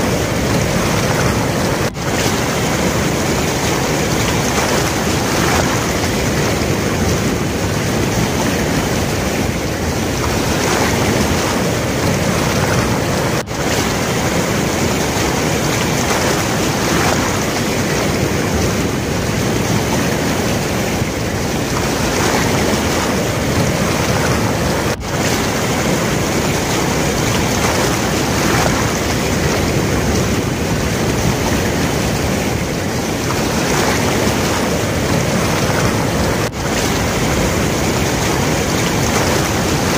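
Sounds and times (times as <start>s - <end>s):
river water rushing: 0.0s - 39.9s
wind on microphone: 0.0s - 39.9s.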